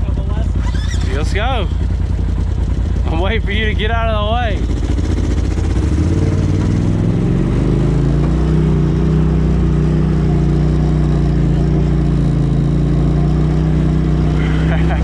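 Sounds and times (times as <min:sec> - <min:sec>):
off-road vehicle engine: 0:00.0 - 0:15.0.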